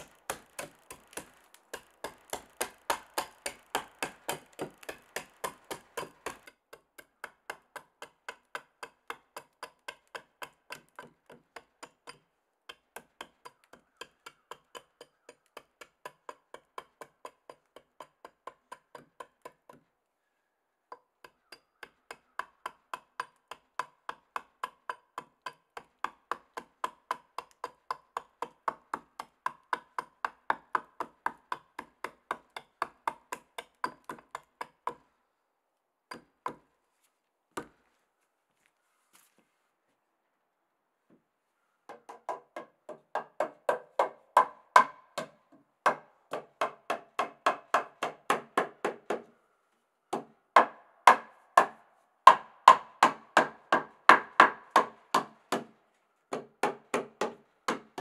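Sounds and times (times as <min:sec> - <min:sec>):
hatchet chopping wood: 0:00.0 - 0:19.9, 0:20.9 - 0:35.1, 0:36.1 - 0:36.7, 0:37.6 - 0:37.8, 0:41.9 - 0:49.3, 0:50.1 - 0:58.0.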